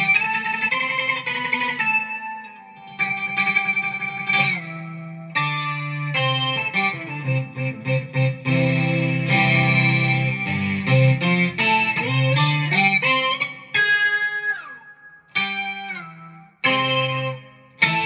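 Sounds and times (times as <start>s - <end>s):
synth-toned electric guitar: 0.0s - 18.0s.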